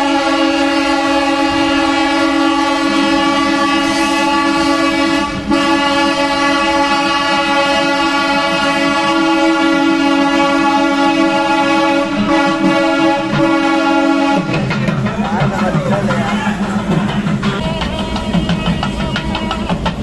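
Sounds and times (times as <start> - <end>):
train horn blast: 0.0 - 14.8, 17.3 - 20.0
train rumbling: 0.0 - 20.0.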